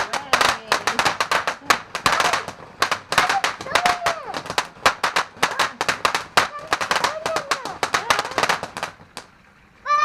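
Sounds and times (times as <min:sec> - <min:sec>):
firework crackling: 0:00.0 - 0:09.5.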